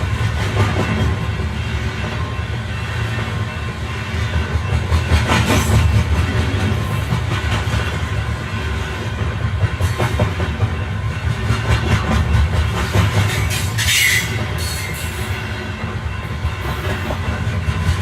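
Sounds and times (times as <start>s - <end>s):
train running gear rumble: 0.0s - 18.0s.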